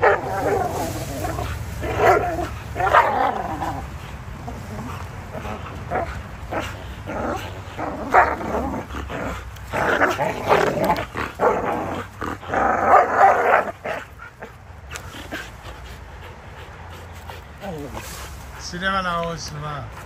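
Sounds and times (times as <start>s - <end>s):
dogs growling in play: 0.0s - 18.6s.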